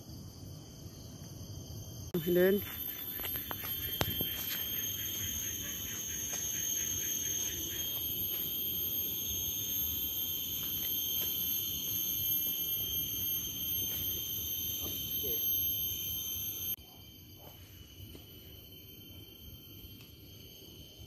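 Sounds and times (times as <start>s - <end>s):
insects droning high-pitched: 0.0s - 21.0s.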